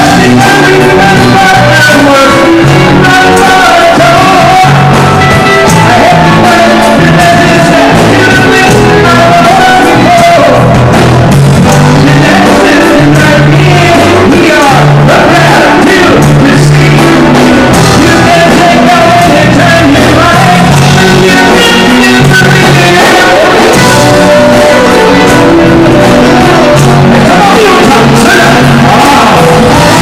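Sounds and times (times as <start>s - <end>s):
bass line: 0.0s - 30.0s
live rock band playing: 0.0s - 30.0s
person singing: 0.0s - 30.0s.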